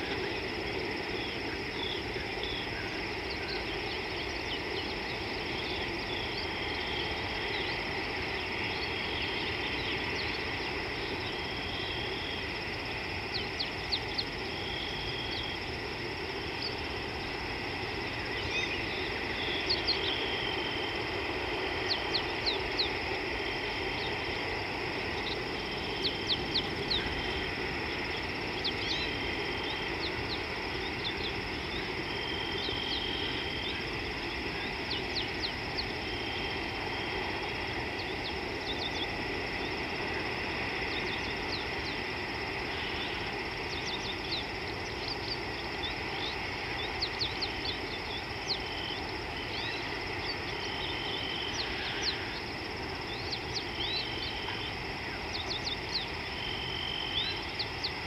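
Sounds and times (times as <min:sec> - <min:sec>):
background hiss: 0:00.0 - 0:58.0
insect drone: 0:00.0 - 0:58.0.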